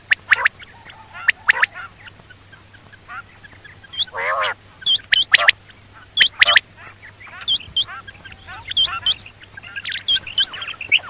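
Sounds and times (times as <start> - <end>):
faint steady hum: 0.0 - 11.0
quail calling: 0.0 - 11.0.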